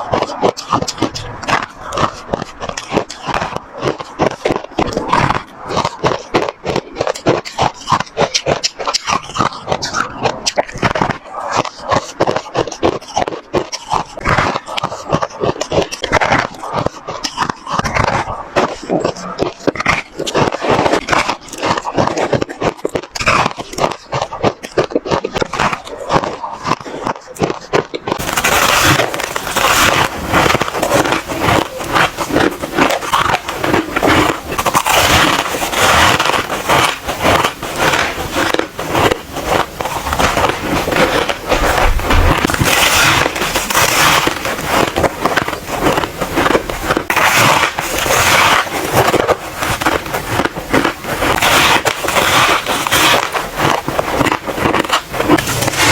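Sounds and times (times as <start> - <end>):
ice crunching being chewed: 0.0 - 55.9.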